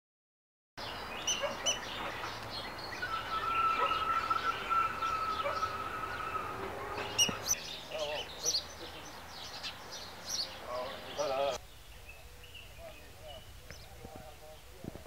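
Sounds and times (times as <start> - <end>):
birds calling: 0.8 - 15.0.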